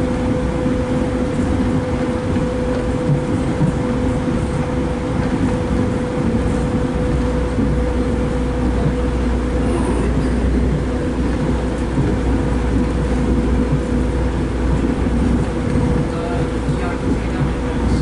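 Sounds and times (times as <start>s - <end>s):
train hum: 0.0s - 18.0s
wheels rumbling on rail: 0.0s - 18.0s.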